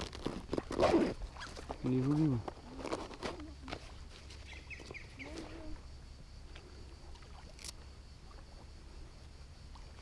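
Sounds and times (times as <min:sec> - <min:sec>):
quiet water movement: 0:00.0 - 0:10.0.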